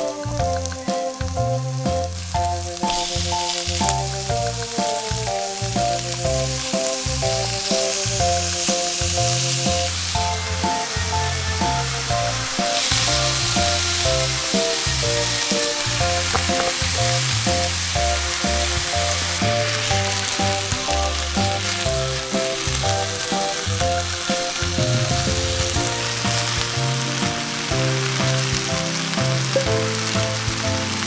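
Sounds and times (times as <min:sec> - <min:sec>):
food sizzling in a frying pan: 0:00.0 - 0:31.0
light music with walking bass: 0:00.0 - 0:31.0.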